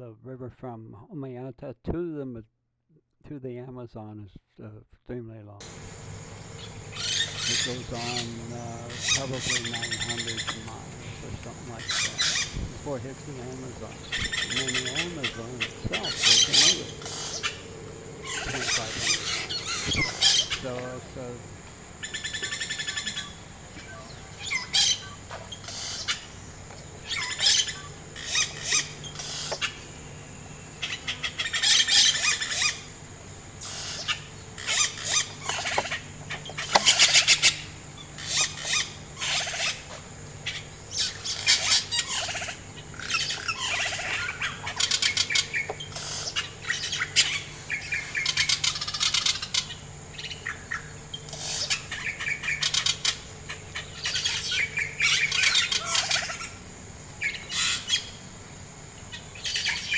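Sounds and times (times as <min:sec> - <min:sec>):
birds chirping: 0:05.6 - 0:59.9
high-pitched insect drone: 0:05.6 - 0:59.9.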